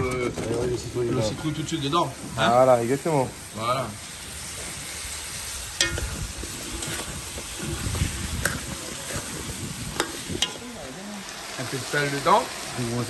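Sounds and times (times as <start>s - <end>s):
food sizzling in hot oil: 0.1s - 13.0s.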